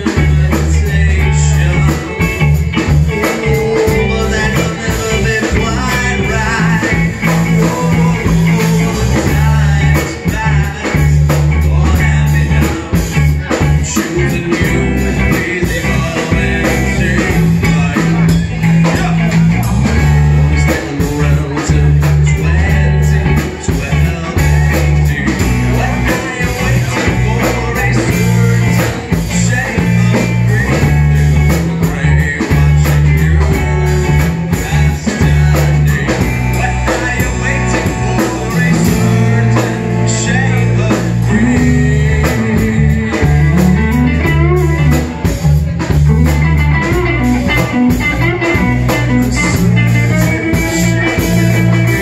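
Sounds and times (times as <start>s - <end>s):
drum kit beat: 0.0s - 52.0s
electric bass: 0.0s - 52.0s
electric guitar: 0.0s - 52.0s
man singing: 0.0s - 52.0s.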